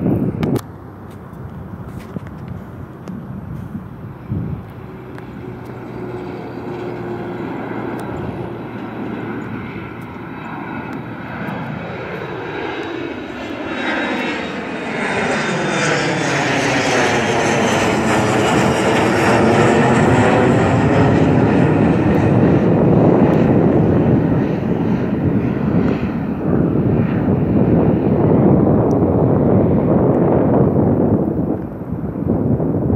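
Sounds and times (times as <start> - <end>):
jet airliner taking off: 0.0 - 32.9.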